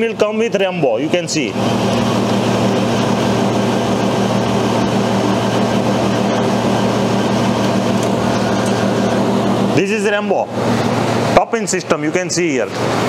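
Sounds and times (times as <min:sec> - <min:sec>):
ice cream machine humming: 0:00.0 - 0:13.0.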